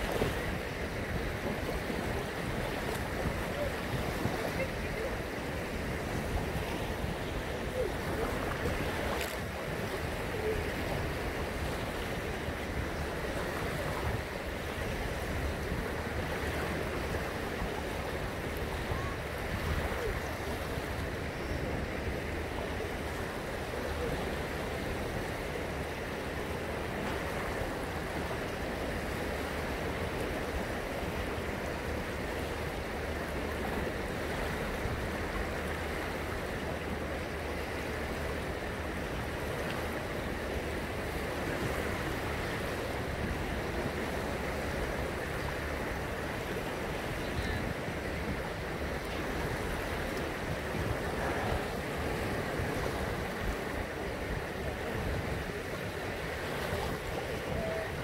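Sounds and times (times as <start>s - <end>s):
sea water lapping and splashing: 0.0s - 58.0s.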